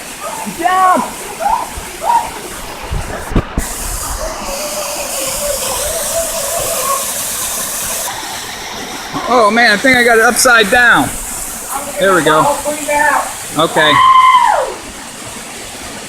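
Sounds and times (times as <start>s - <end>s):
rushing hissing water: 0.0s - 16.0s.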